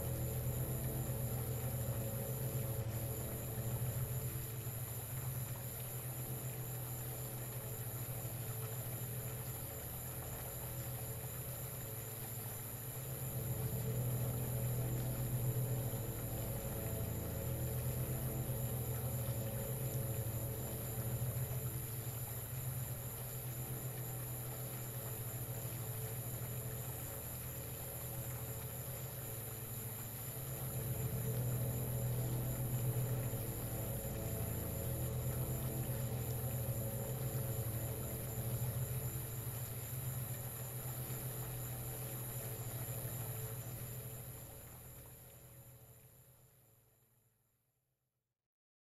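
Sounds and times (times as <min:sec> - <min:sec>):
low electronic drone: 0:00.0 - 0:45.9
thin high whine and hiss: 0:00.0 - 0:46.4.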